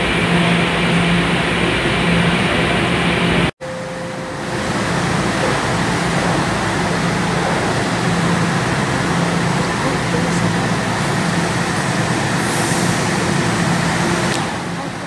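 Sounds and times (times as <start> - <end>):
subway train arriving: 0.0 - 15.0
subway train rumbling: 0.0 - 15.0.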